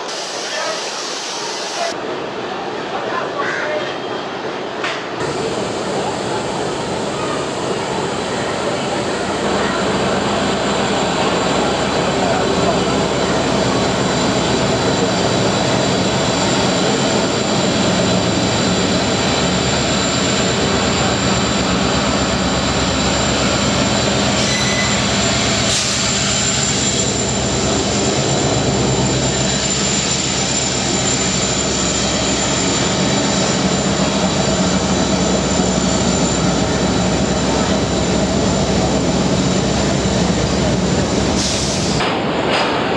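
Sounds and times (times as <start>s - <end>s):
diesel locomotive engine: 4.0s - 42.9s.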